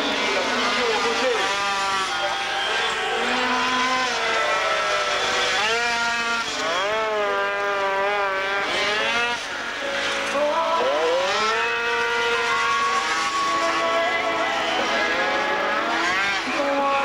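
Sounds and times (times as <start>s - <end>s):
moped engines revving: 0.0s - 17.0s.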